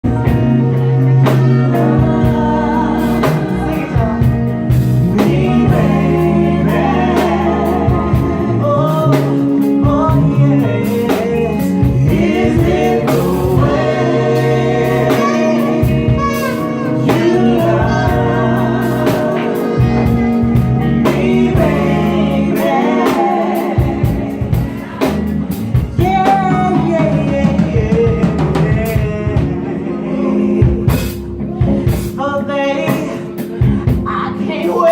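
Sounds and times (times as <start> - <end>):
live band playing: 0.0 - 34.9
woman singing: 0.1 - 25.2, 26.0 - 34.9.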